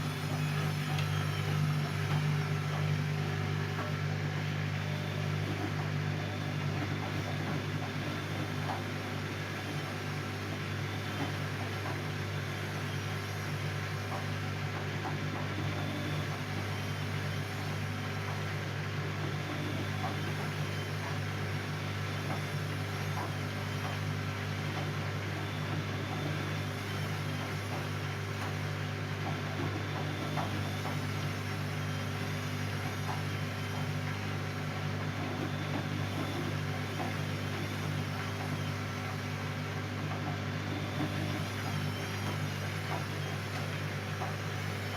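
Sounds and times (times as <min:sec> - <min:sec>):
washing machine humming: 0:00.0 - 0:44.9.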